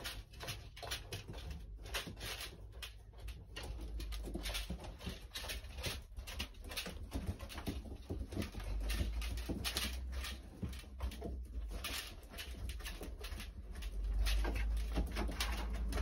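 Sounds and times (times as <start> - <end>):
beaks pecking at feeder: 0.0 - 16.0
feet on wire mesh: 0.0 - 16.0.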